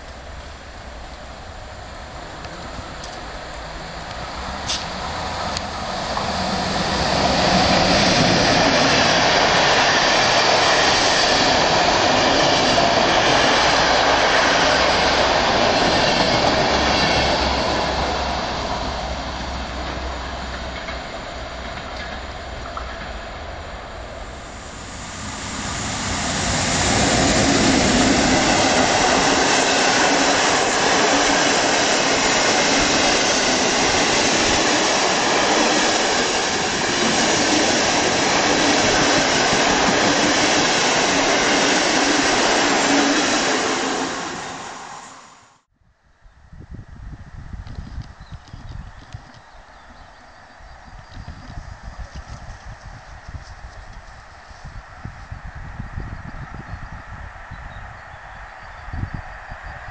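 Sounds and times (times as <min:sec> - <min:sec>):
passenger train passing: 0:00.0 - 0:45.7, 0:54.0 - 0:59.9.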